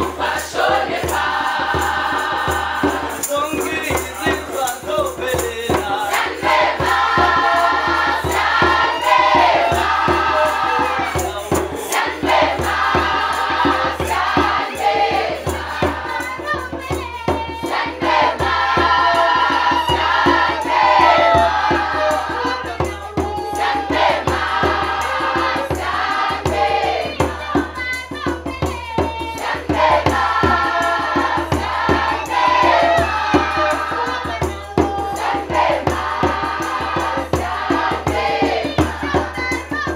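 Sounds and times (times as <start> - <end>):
women's choir singing: 0.0 - 4.0, 5.7 - 39.9
hand drum beating: 0.0 - 39.9.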